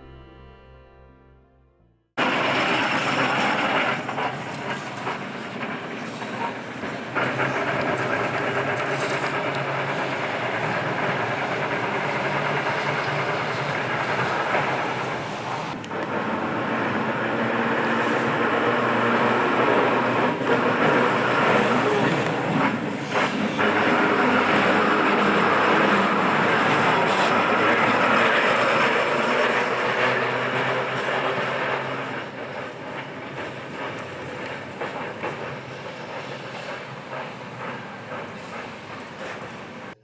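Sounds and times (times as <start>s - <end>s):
tram wheels rumbling on rail: 2.2s - 40.0s.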